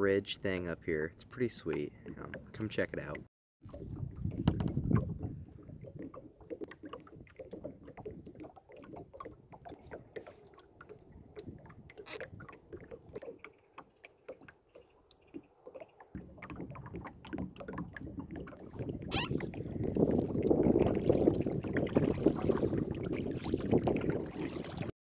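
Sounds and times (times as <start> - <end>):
paddle splashing in water: 1.5 - 24.9.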